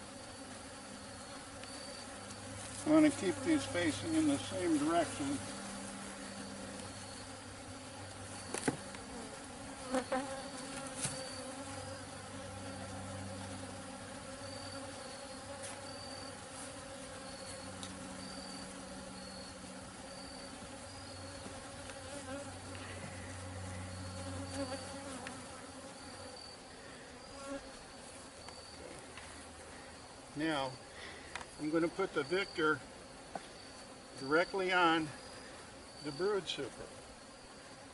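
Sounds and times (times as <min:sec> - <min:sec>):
honey bees buzzing: 0:00.0 - 0:37.9.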